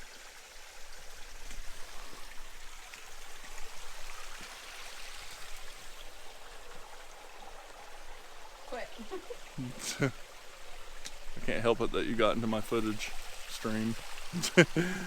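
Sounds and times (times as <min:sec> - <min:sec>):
creek running over rocks: 0:00.0 - 0:15.0.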